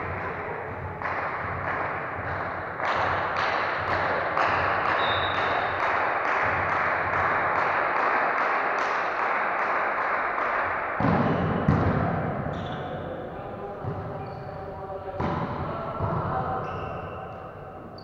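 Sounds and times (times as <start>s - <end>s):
volleyball rally in echoing hall: 0.0s - 18.0s.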